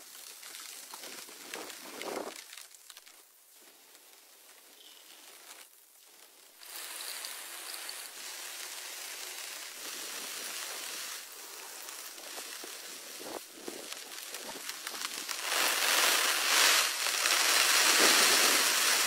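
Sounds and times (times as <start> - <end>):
rain on a tarp: 0.0 - 19.0.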